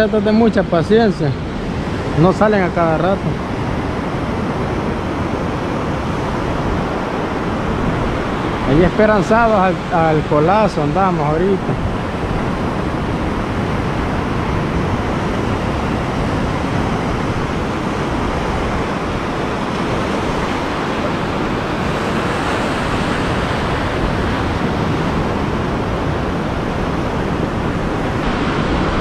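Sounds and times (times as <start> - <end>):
foam washing up the beach: 0.0 - 29.0
ocean surf breaking: 0.0 - 29.0.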